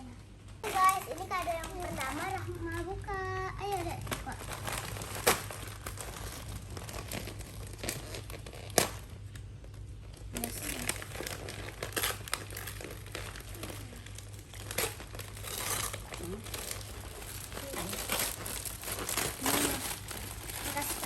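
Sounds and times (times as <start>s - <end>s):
wrapping paper tearing and crinkling: 0.6s - 21.0s.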